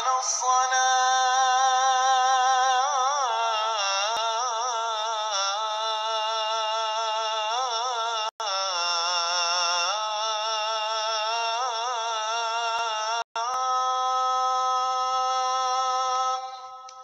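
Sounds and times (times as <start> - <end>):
man chanting call to prayer: 0.0 - 17.0.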